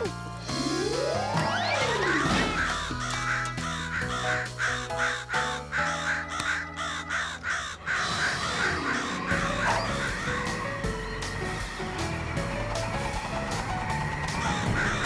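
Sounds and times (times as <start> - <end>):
background music: 0.0 - 15.0
cartoon crows cawing: 1.6 - 15.0.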